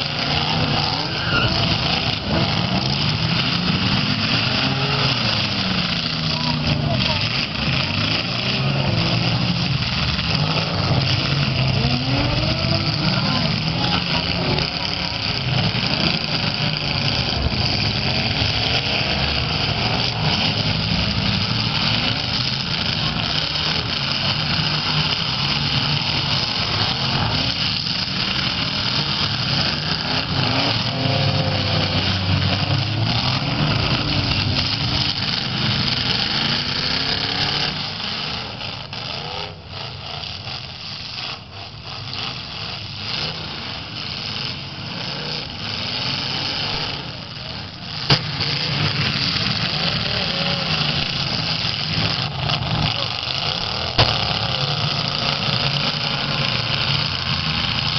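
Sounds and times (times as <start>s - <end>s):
car engines revving hard: 0.0s - 57.9s.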